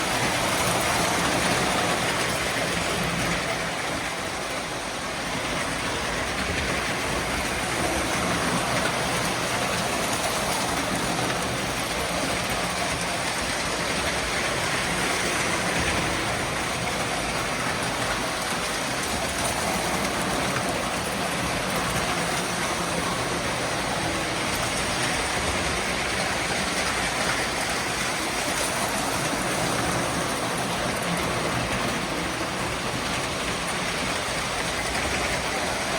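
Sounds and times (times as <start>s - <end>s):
train rumbling on track: 0.0s - 35.9s.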